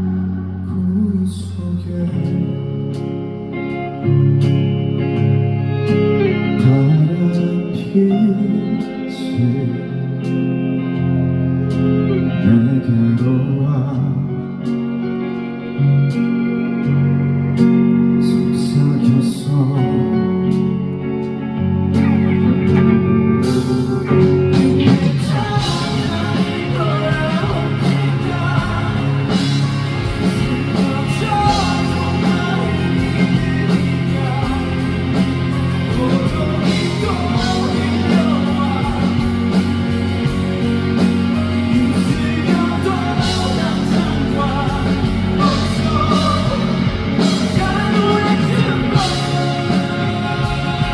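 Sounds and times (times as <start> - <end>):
live rock band guitar-led: 0.0 - 50.9.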